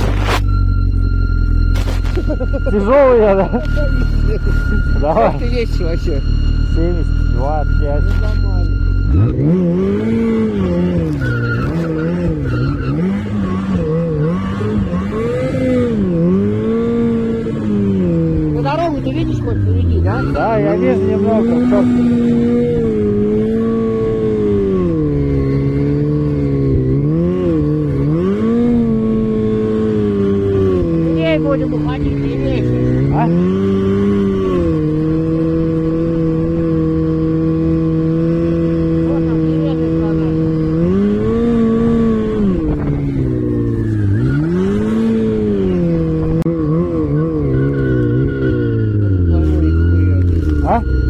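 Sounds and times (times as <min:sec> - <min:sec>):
vehicle engine revving: 0:00.0 - 0:51.0.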